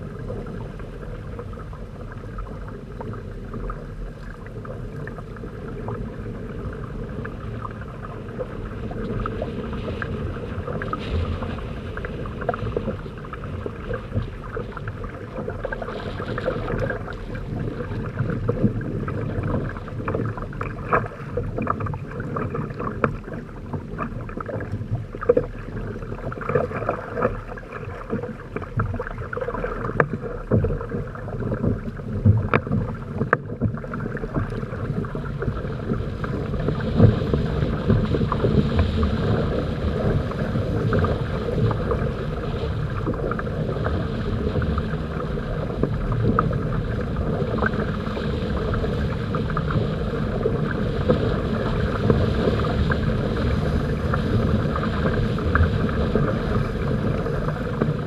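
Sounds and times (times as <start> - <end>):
water rushing against boat hulls: 0.0 - 58.0.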